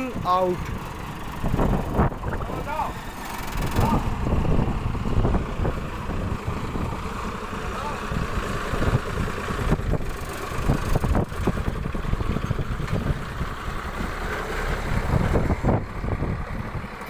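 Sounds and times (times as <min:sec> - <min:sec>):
truck diesel engine rumbling: 0:00.0 - 0:17.0
wind buffeting microphone: 0:00.0 - 0:17.0.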